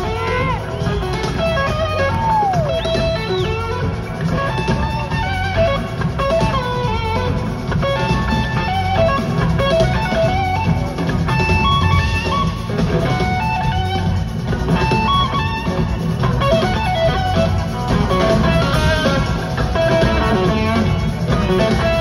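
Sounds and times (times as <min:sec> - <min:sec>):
bass guitar: 0:00.0 - 0:22.0
drum kit: 0:00.0 - 0:22.0
electric guitar lead: 0:00.0 - 0:22.0.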